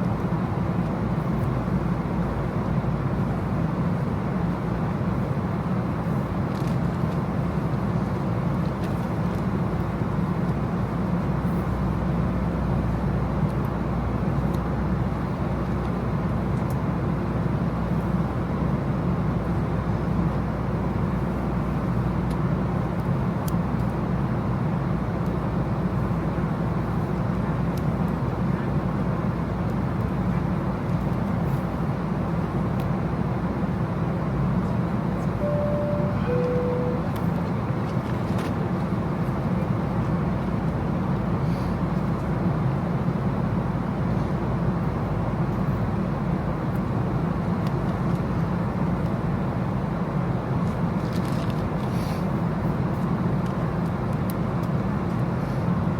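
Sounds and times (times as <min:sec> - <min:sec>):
road vehicle rumble: 0:00.0 - 0:55.9.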